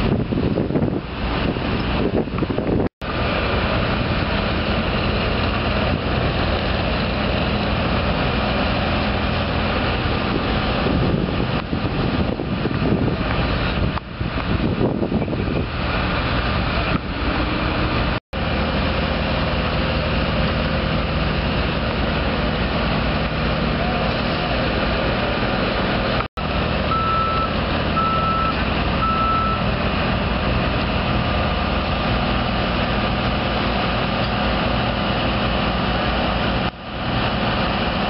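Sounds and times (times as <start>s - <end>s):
heavy engine rumble: 0.0s - 38.0s.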